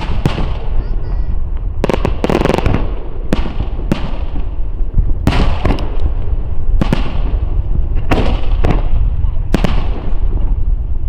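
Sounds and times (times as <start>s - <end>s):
fireworks bursting with sharp bangs: 0.0s - 11.0s
low rumble of echoing detonations: 0.0s - 11.0s.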